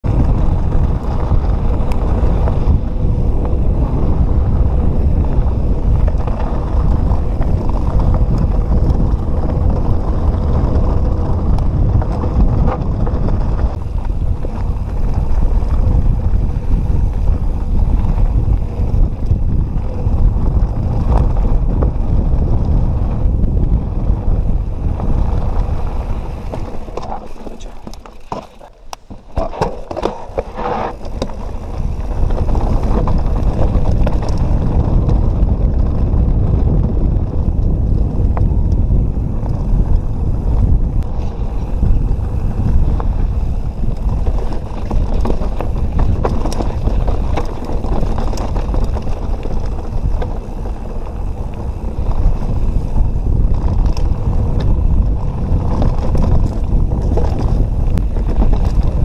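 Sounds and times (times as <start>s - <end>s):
mountain bike rolling on a trail: 0.0s - 59.0s
wind buffeting a microphone: 0.0s - 59.0s.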